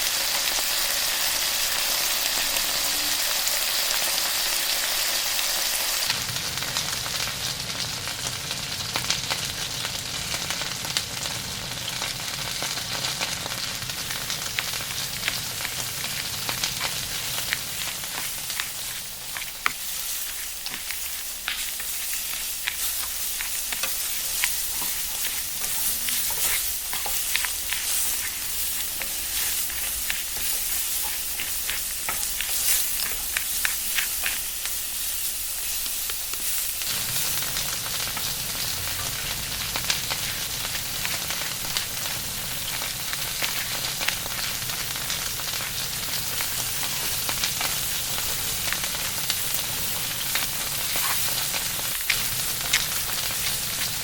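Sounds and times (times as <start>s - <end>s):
sizzling hiss with crackles: 0.0s - 54.0s.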